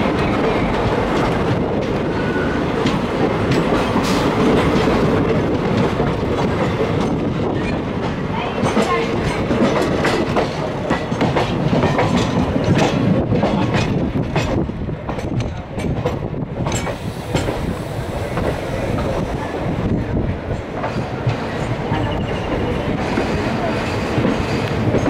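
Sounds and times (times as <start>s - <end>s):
passing train coaches: 0.0s - 25.0s
train running noise: 0.0s - 25.0s.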